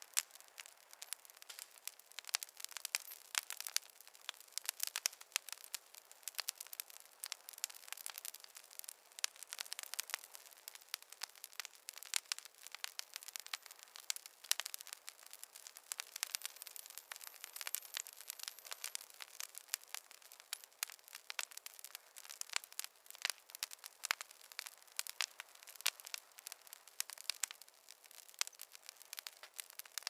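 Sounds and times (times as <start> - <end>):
faint hiss: 0.0 - 30.0
wood fire crackling: 0.0 - 30.0.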